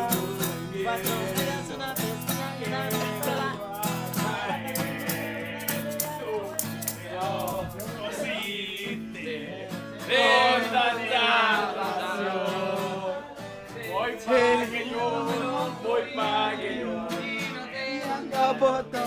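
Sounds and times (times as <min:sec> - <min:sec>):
guitar: 0:00.0 - 0:19.0
person singing: 0:00.0 - 0:19.0.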